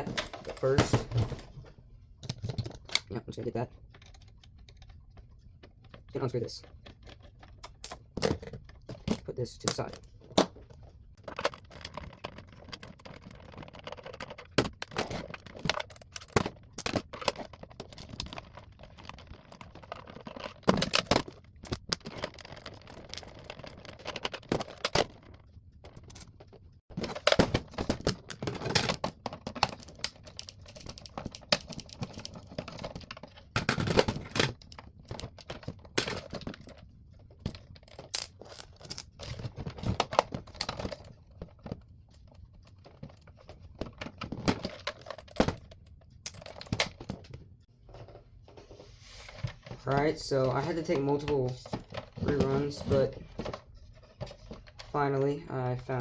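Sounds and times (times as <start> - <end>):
plastic radio parts rattling: 0.0 - 56.0.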